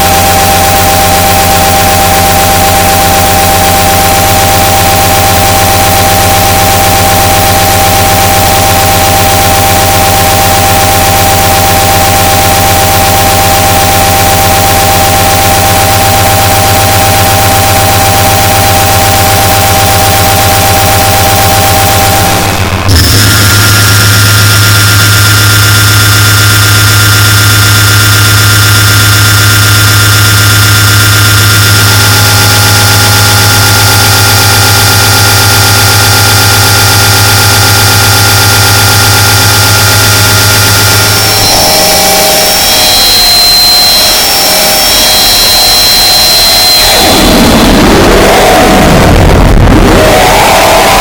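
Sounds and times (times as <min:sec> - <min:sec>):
electronic noise music: 0:00.0 - 0:51.0.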